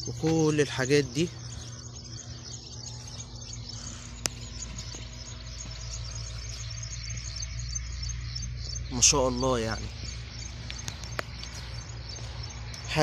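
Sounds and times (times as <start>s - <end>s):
faint high chirping: 0.0s - 13.0s
steady low hum: 0.0s - 13.0s.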